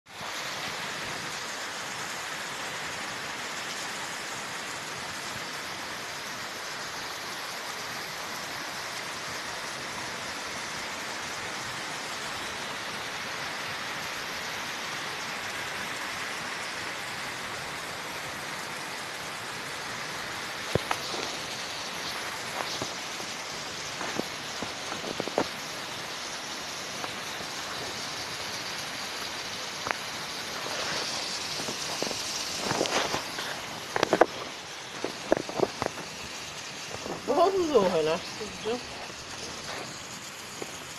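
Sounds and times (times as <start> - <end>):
heavy rain on trees and ground: 0.1 - 40.9
water pouring off roof splashing: 0.1 - 40.9.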